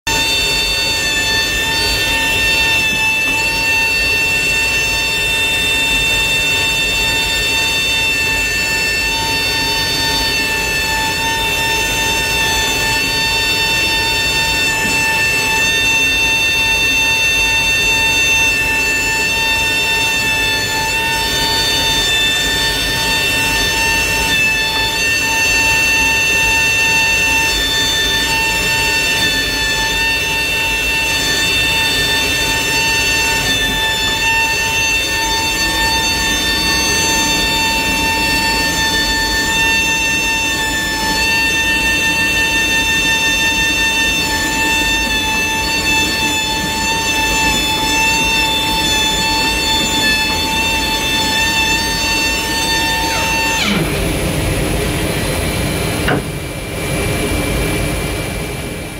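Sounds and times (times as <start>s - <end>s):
hydraulic pump whining: 0.0s - 58.9s.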